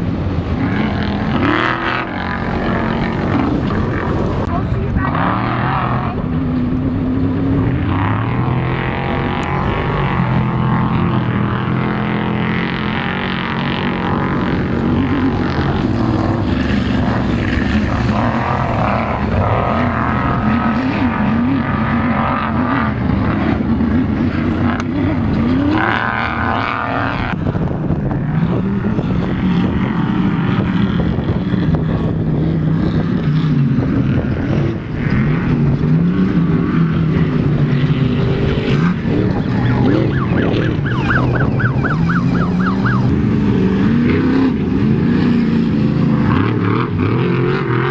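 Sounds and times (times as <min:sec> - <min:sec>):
race engines revving: 0:00.0 - 0:47.9.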